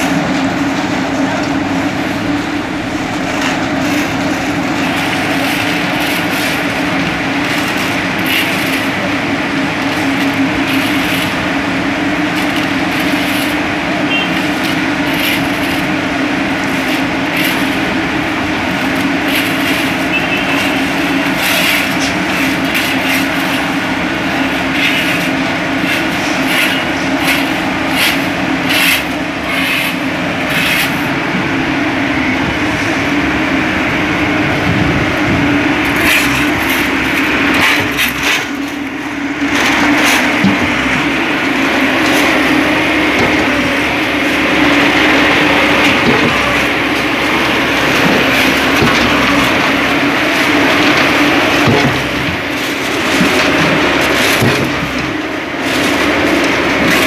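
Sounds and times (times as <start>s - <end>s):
diesel engine drone: 0.0s - 57.0s
machine clattering and rattling: 3.0s - 31.0s, 34.6s - 57.0s.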